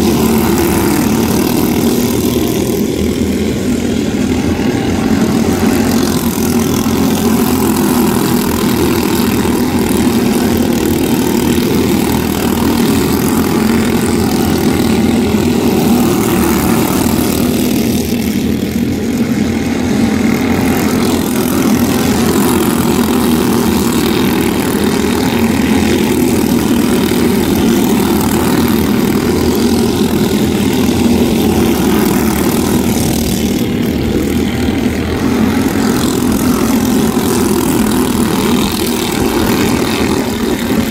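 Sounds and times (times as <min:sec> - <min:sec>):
small race car engines buzzing: 0:00.0 - 0:40.9.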